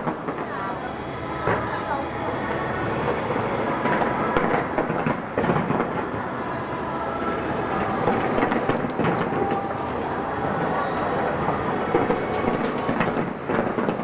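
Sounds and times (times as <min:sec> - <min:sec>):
fireworks crackling: 0:00.0 - 0:01.9, 0:02.6 - 0:14.0.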